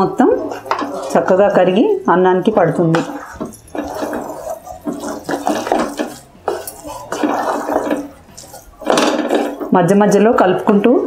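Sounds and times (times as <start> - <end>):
spatula stirring wet mix: 0.0 - 11.0.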